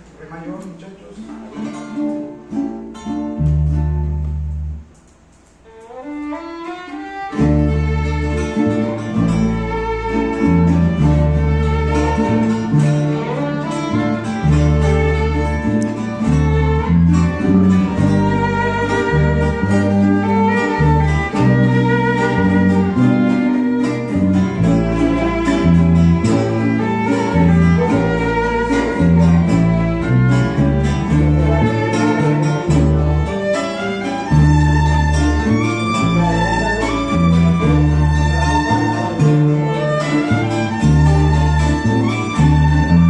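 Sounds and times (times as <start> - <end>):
string ensemble playing waltz: 5.6 - 43.0
violin melody: 5.6 - 43.0.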